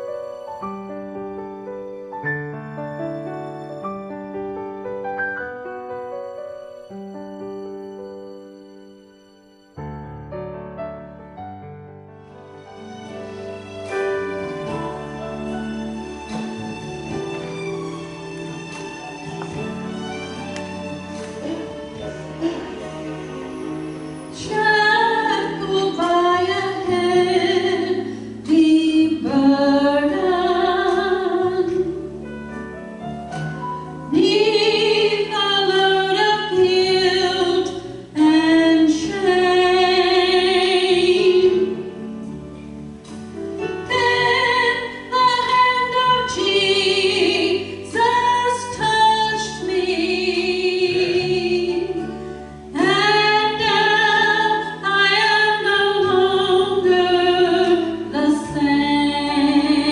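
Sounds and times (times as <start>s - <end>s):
instrumental accompaniment: 0.0s - 59.9s.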